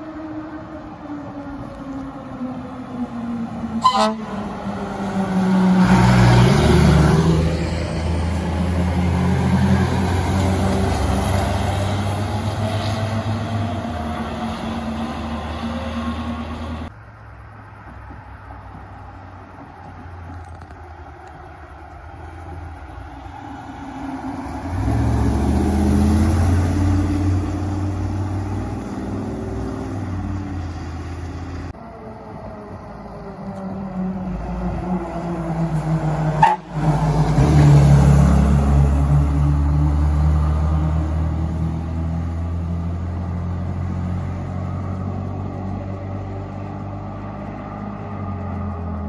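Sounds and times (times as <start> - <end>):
fire truck diesel engines passing: 0.0 - 49.0.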